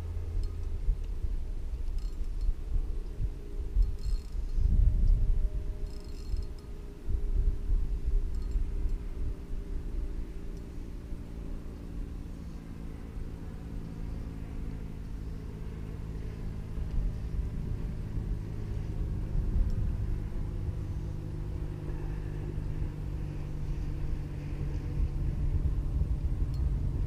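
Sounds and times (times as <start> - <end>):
boat motor humming: 0.0 - 27.0.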